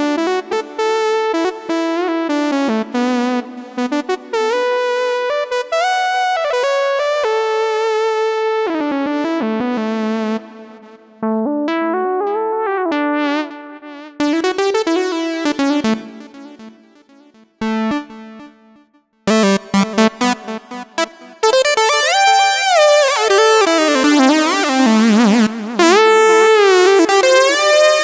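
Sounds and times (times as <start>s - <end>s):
synthesizer notes and chords: 0.0s - 28.0s.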